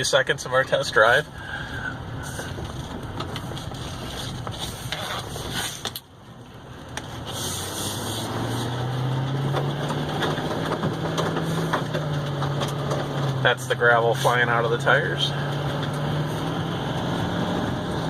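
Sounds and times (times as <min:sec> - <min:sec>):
tire and road noise: 0:00.0 - 0:18.0
truck engine drone: 0:00.0 - 0:18.0.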